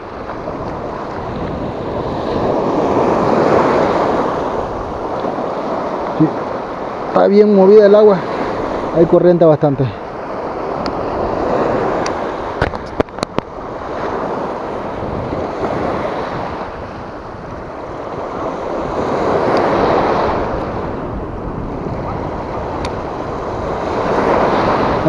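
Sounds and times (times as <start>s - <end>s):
surf breaking over rocks: 0.0s - 25.0s.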